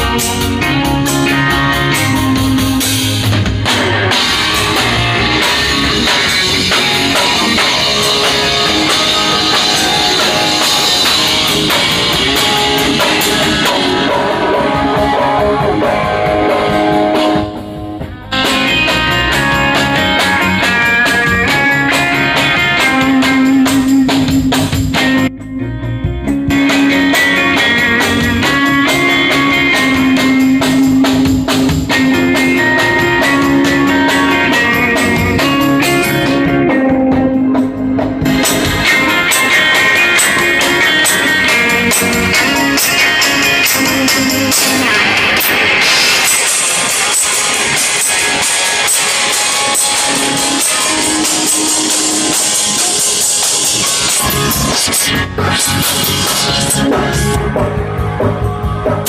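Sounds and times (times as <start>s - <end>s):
drum kit playing: 0.0s - 59.0s
electric guitar through amplifier: 0.0s - 59.0s.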